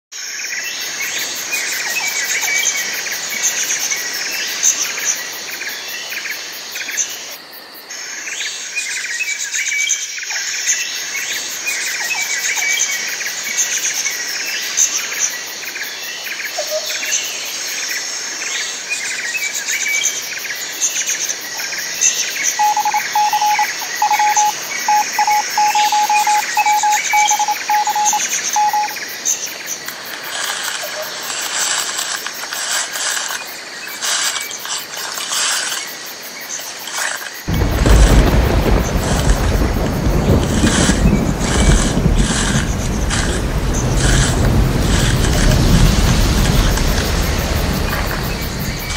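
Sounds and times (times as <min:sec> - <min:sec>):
high insect drone: 0:00.2 - 0:09.5, 0:10.3 - 0:48.9.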